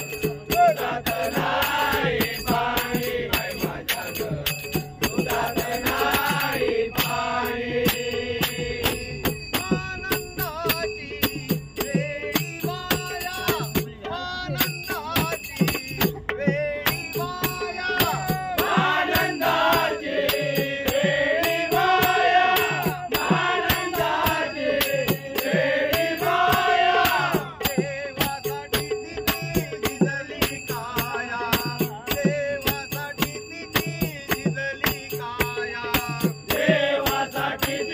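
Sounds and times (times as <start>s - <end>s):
jingling percussion: 0.0s - 37.9s
man singing chant-like melody: 0.0s - 37.9s.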